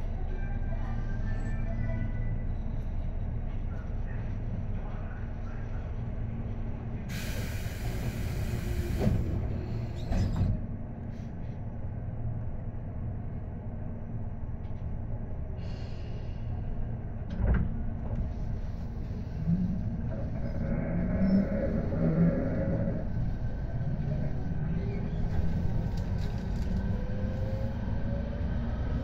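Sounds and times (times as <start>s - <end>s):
electric train rumbling: 0.0s - 29.0s.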